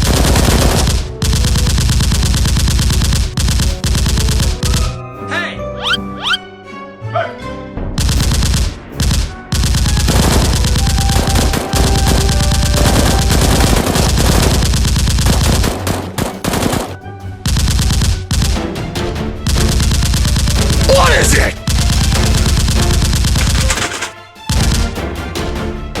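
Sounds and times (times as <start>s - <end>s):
rapid automatic gunfire: 0.0s - 5.0s, 8.0s - 25.0s
background music: 0.0s - 26.0s.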